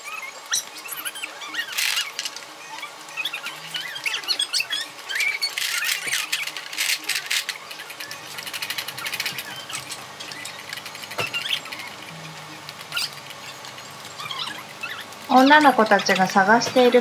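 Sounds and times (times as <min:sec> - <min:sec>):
toy parts clicking: 0:03.2 - 0:17.0.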